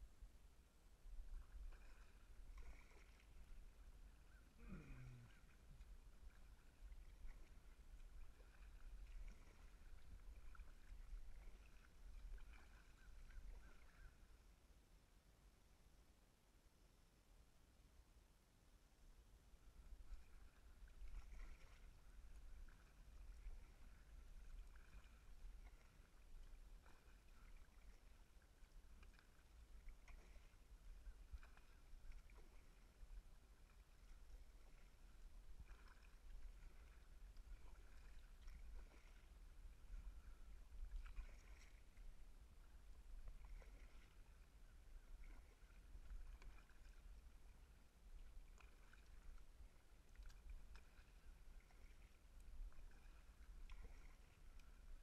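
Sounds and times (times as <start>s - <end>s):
muffled paddle strokes in water: 0.0s - 14.8s, 19.4s - 55.0s
low steady rumble: 0.0s - 55.0s.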